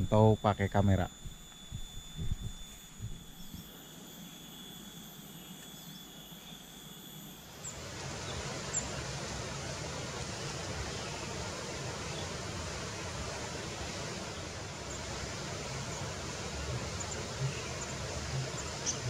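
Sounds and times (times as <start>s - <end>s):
steady even hiss: 0.0s - 19.0s
thin high whine: 0.0s - 19.0s.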